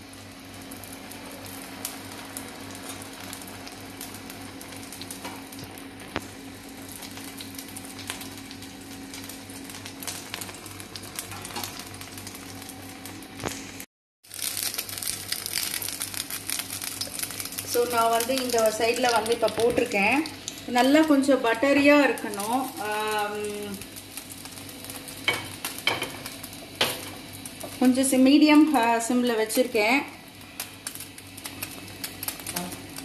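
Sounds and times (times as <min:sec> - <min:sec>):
bread frying in butter sizzling: 0:00.0 - 0:33.0.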